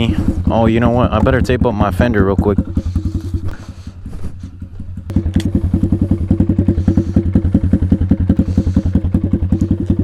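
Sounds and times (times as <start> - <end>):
pit bike engine idling: 0.0 - 10.0.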